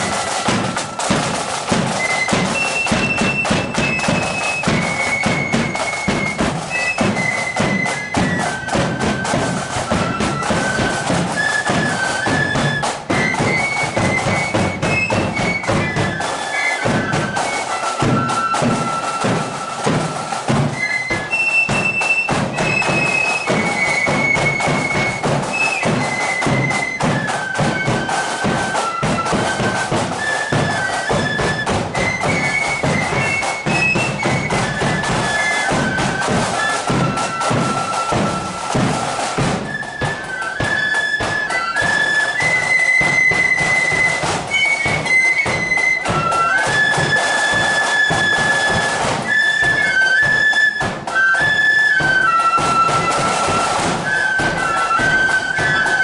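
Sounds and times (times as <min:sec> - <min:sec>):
flutes playing a shrill melody: 0:00.0 - 0:56.0
marching drums beating: 0:00.0 - 0:56.0.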